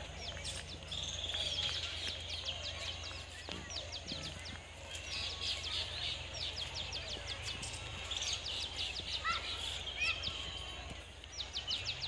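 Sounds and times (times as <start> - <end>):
bird trill: 0.0 - 12.0
small birds chirping: 0.0 - 12.0.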